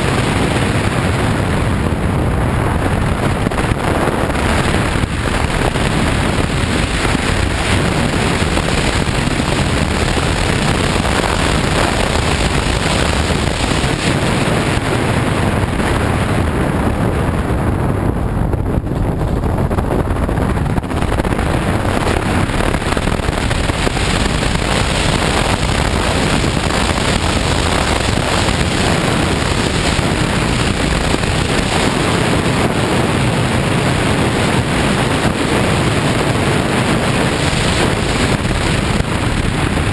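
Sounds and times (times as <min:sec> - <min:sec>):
motorcycle engine: 0:00.0 - 0:39.9
tyres on dirt road: 0:00.0 - 0:39.9
wind rushing over microphone: 0:00.0 - 0:39.9.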